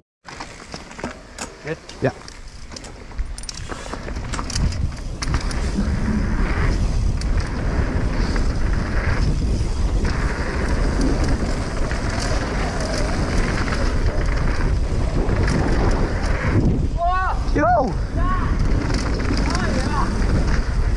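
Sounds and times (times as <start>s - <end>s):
bike rattling: 0.2s - 20.9s
wind buffeting microphone: 2.4s - 20.9s.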